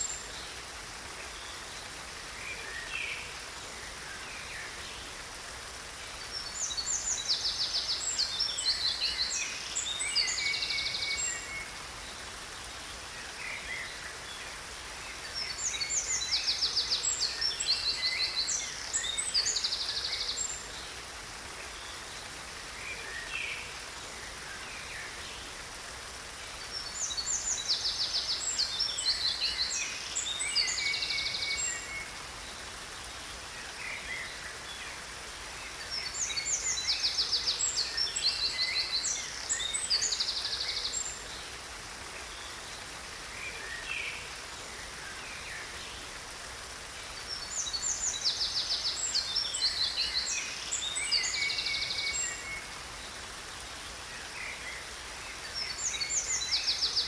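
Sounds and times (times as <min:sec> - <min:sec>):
songbirds trilling and chirping: 0:00.0 - 0:57.0
waterfall rushing: 0:00.0 - 0:57.0.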